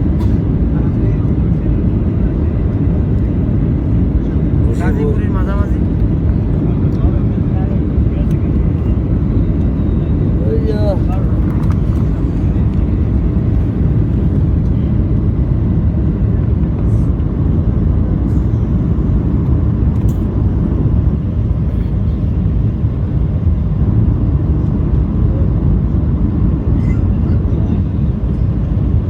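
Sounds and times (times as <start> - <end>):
airliner cabin engine roar: 0.0 - 29.0.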